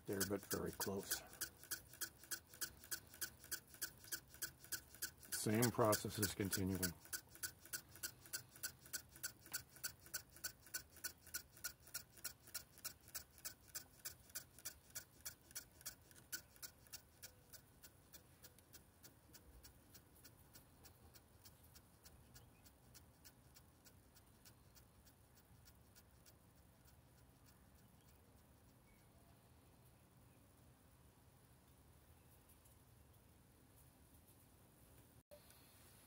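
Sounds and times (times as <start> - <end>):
servos ticking faintly: 0.0 - 29.0.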